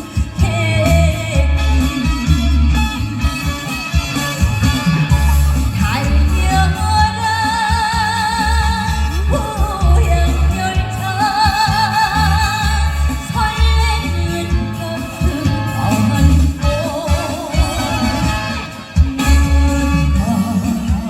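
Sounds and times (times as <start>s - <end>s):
person singing with vibrato: 0.0s - 4.0s, 5.0s - 21.0s
amplified backing music: 0.0s - 21.0s
heavy bass beat: 0.0s - 21.0s.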